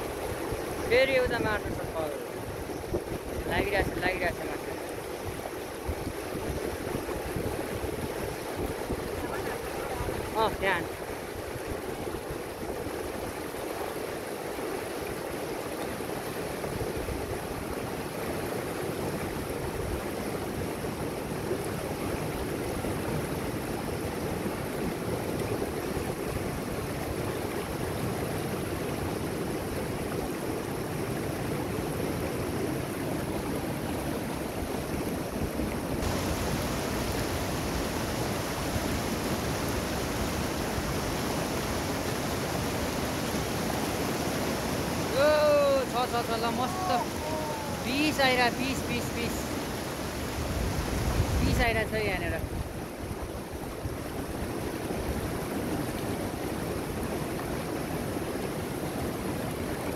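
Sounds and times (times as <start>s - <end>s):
river rushing over boulders: 0.0s - 59.9s.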